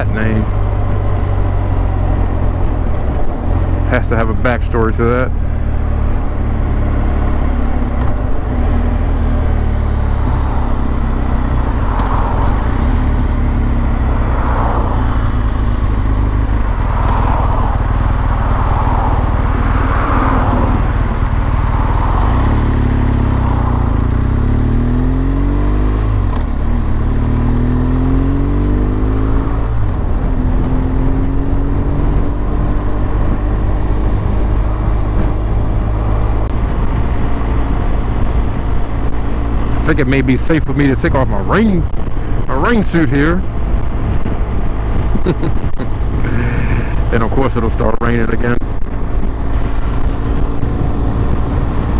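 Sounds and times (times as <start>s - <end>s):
motorcycle engine running: 0.0s - 51.9s
road and wind rumble: 0.0s - 51.9s.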